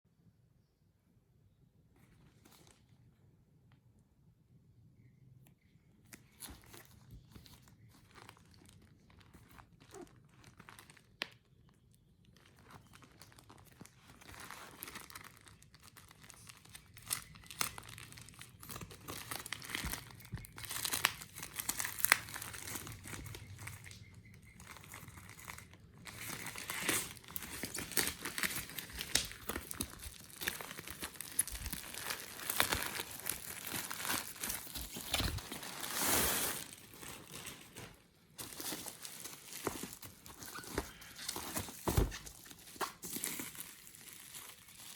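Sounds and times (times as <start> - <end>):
packaging crinkling and tearing: 6.1 - 44.9.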